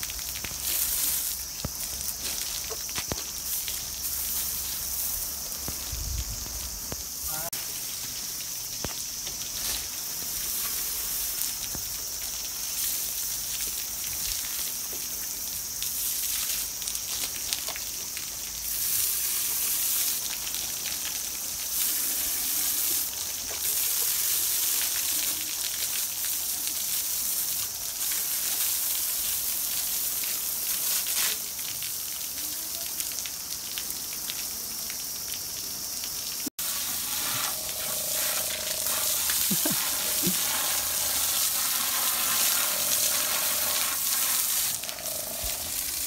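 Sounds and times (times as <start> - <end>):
water hose spraying: 0.0 - 35.2, 35.8 - 46.0
water spattering on ground: 0.0 - 46.0.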